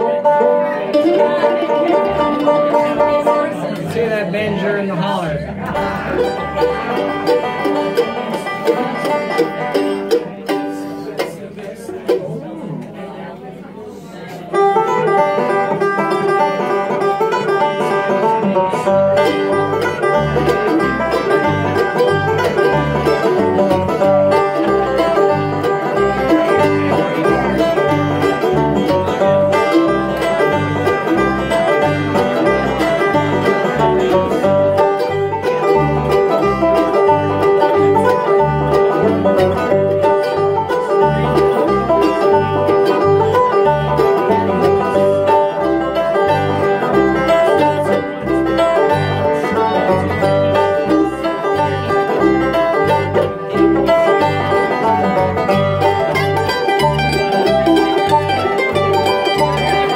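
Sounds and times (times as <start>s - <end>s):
bluegrass string band playing: 0.0s - 59.9s.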